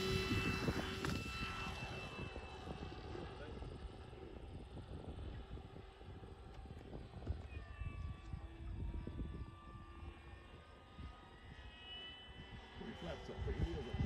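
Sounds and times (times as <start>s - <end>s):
model plane motor whining: 0.0s - 14.0s.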